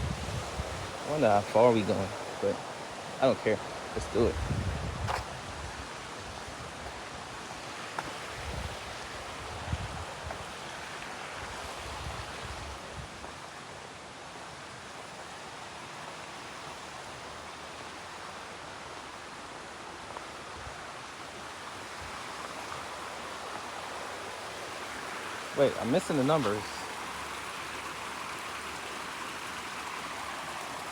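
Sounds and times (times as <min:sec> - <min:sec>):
creek rushing: 0:00.0 - 0:30.9.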